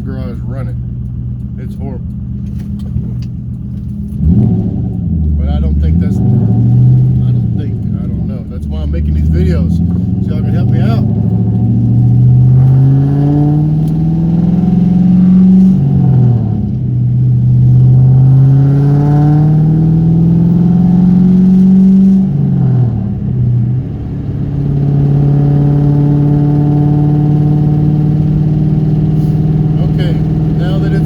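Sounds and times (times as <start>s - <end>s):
car engine accelerating through gears: 0.0s - 31.0s.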